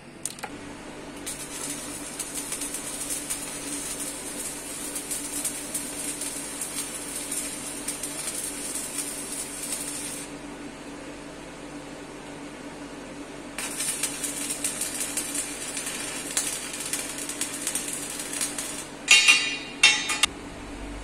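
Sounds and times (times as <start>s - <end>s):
arc welding crackling sizzle: 0.0s - 10.7s, 13.5s - 20.3s
faint constant hum: 0.0s - 21.0s.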